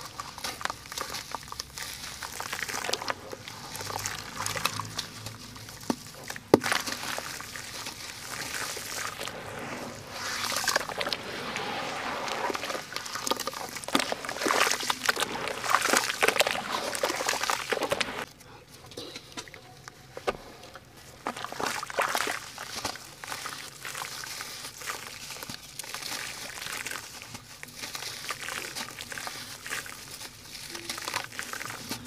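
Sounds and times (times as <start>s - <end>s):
wet sloshing and squelching: 0.0s - 18.3s, 20.6s - 32.0s.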